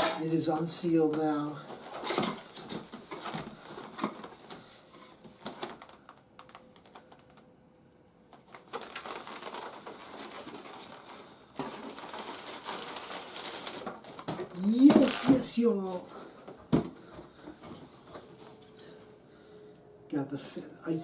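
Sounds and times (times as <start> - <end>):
packaging rustling: 1.1 - 7.4, 8.3 - 18.9.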